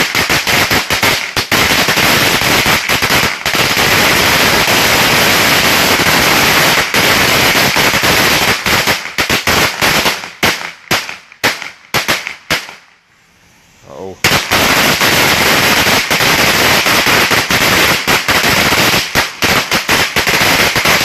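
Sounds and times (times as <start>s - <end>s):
firecrackers banging: 0.0s - 12.9s, 14.0s - 21.0s.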